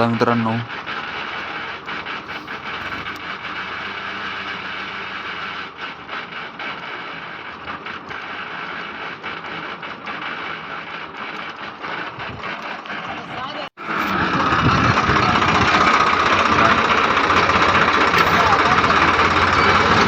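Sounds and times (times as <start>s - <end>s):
rotavator gearbox grinding: 0.0s - 20.0s
tractor engine: 0.0s - 20.0s.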